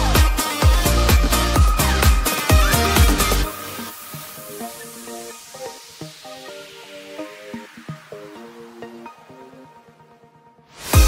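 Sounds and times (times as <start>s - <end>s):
electronic synth chords: 0.0s - 11.0s.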